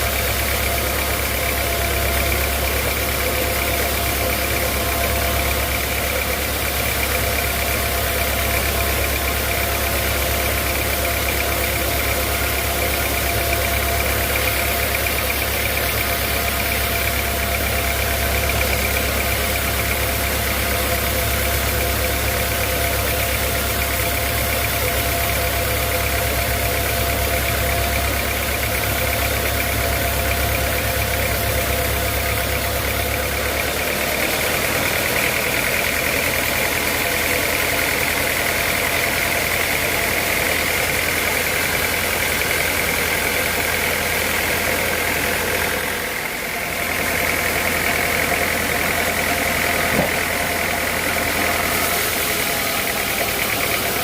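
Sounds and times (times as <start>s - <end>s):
deep machinery rumble: 0.0s - 54.0s.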